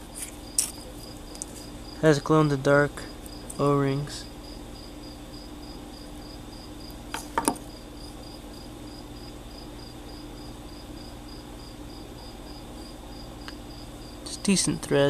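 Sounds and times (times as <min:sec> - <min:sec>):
cricket chirping: 0:00.1 - 0:15.0.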